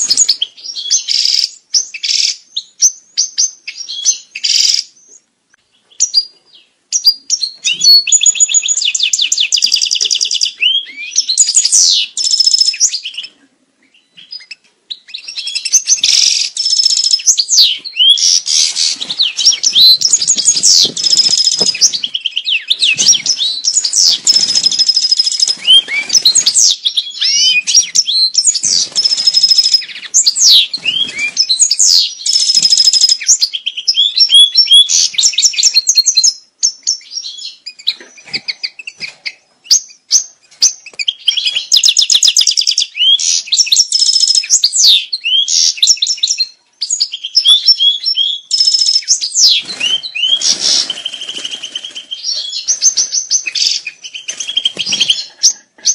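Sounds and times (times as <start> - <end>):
goldfinch song: 0.0 - 55.9.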